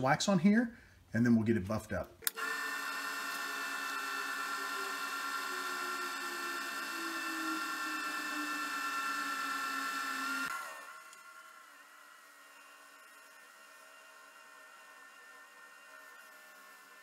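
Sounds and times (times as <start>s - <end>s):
wood lathe motor whine: 2.3s - 17.0s.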